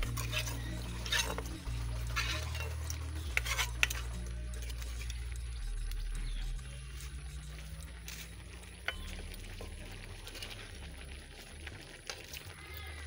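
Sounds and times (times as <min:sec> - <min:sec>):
low rumble: 0:00.0 - 0:12.0
pot of beans bubbling: 0:00.0 - 0:13.0.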